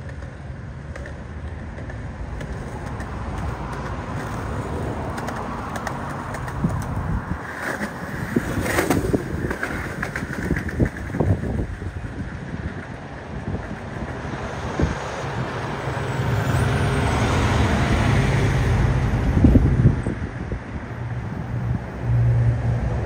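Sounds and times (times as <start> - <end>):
wind buffeting microphone: 1.6 - 16.0, 18.7 - 23.0.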